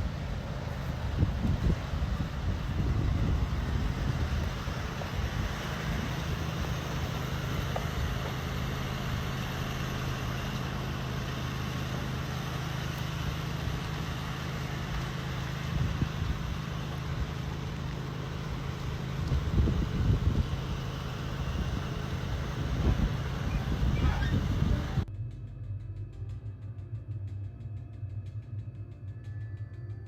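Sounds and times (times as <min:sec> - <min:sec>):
vehicle hum and road noise: 0:00.0 - 0:26.4.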